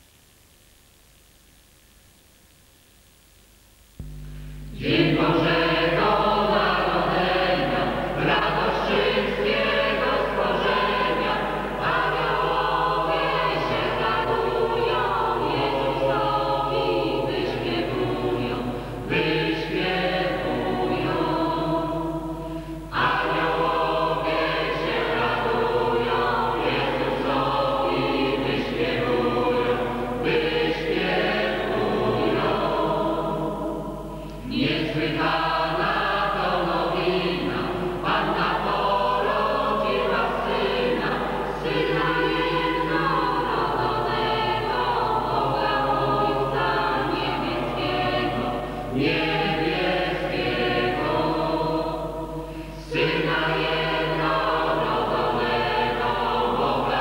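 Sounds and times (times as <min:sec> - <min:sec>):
mixed choir singing a carol: 0:04.7 - 0:57.0.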